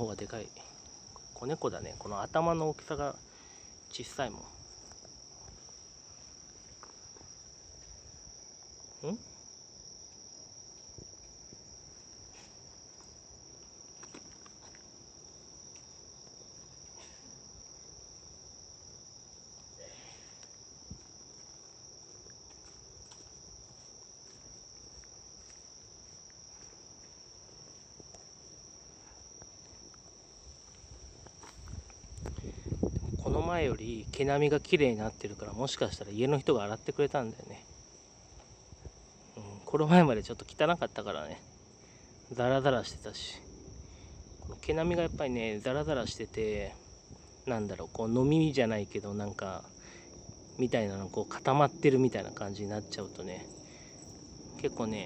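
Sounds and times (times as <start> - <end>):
insect chorus trilling: 0.0 - 55.0.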